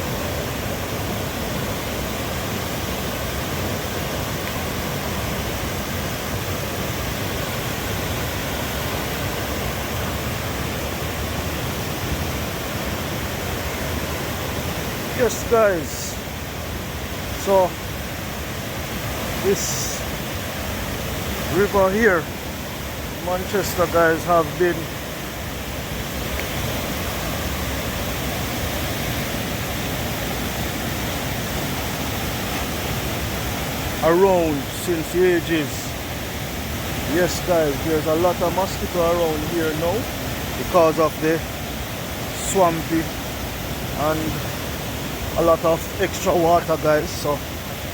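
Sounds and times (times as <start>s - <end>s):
river rushing over falls: 0.0s - 47.9s.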